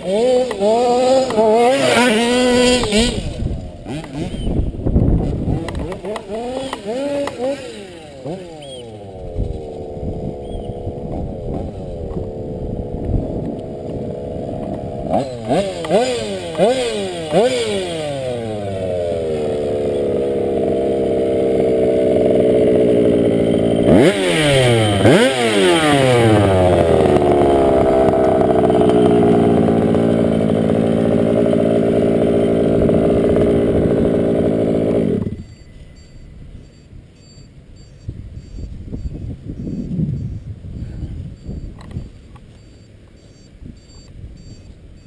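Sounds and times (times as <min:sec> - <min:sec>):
rc truck engine revving: 0:00.0 - 0:40.4.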